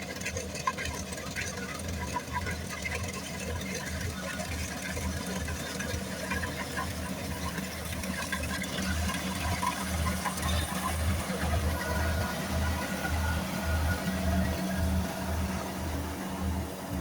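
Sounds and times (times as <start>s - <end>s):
harvester engine running: 0.0s - 17.0s.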